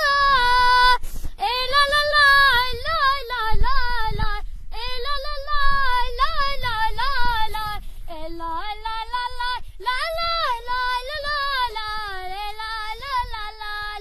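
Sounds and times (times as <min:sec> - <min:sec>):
high voice singing ornamented melody: 0:00.0 - 0:14.0.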